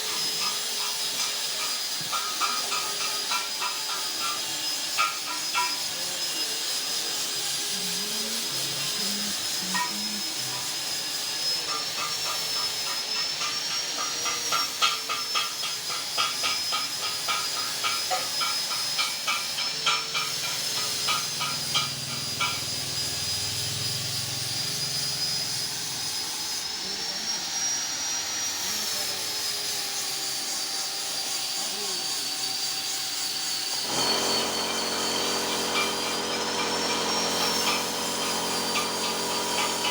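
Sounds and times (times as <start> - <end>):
machine hissing with whine: 0.0 - 39.9.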